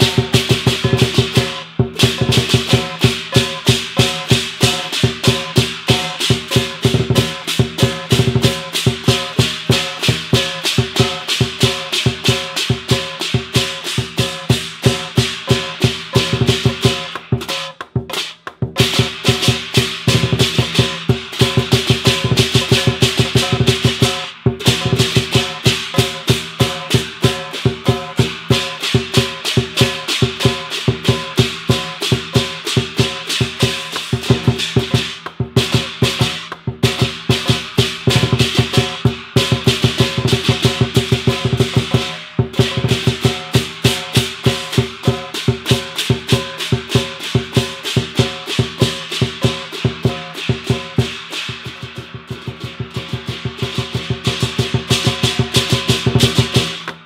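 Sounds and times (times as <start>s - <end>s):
hand cymbals clashing: 0.0s - 57.0s
large drum beaten fast: 0.0s - 57.0s.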